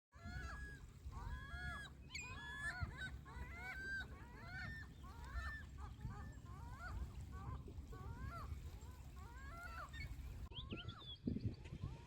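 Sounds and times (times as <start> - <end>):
wind: 0.1 - 12.0
gulls calling: 0.2 - 12.0.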